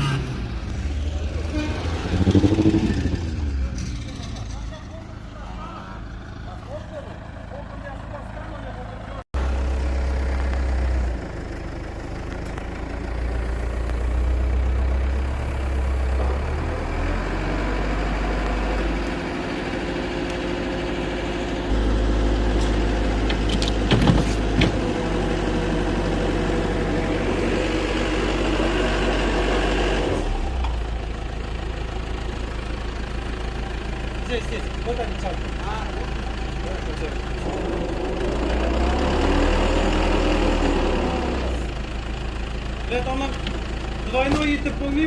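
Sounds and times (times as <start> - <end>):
truck engine revving: 0.0 - 8.3, 9.4 - 32.6, 34.2 - 45.0.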